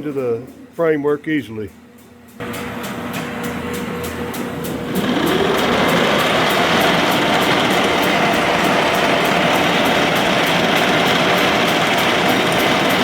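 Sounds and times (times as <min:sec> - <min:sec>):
heavy machine running: 0:02.4 - 0:13.0.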